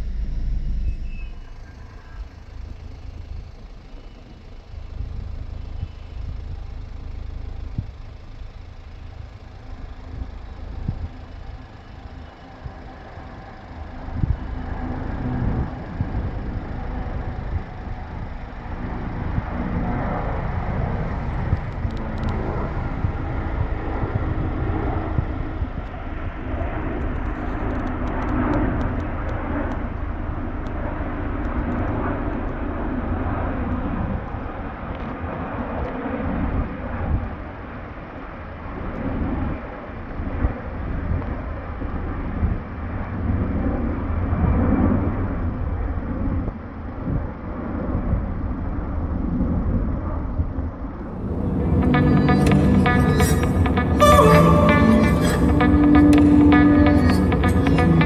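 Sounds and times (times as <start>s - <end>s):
jet engines at take-off power: 0.0s - 58.0s.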